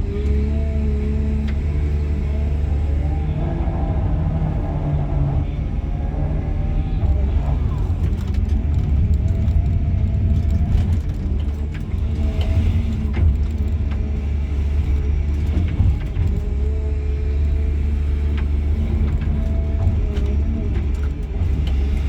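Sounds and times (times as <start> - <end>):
excavator diesel engine rumbling: 0.0 - 22.0.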